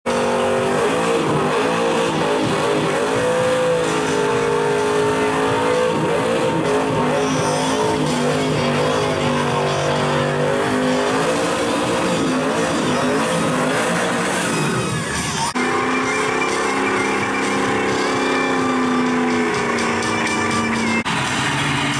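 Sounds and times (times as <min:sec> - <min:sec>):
car engine revving high: 0:00.0 - 0:21.9
tyres screeching on pavement: 0:00.1 - 0:21.7.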